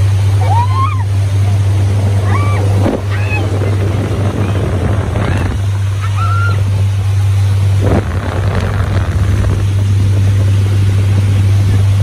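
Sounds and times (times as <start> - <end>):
motorboat engine droning: 0.0 - 12.0
water rushing along hull: 0.0 - 12.0
wind buffeting microphone: 1.6 - 12.0.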